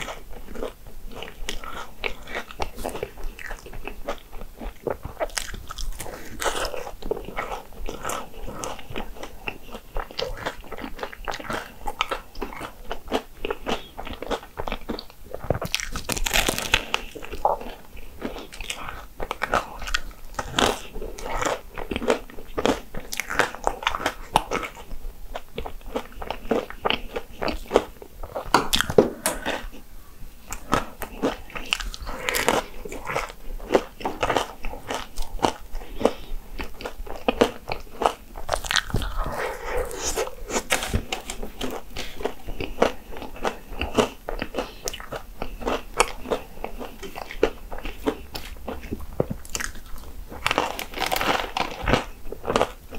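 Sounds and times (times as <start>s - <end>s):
crisp crunching and chewing: 0.0s - 52.9s.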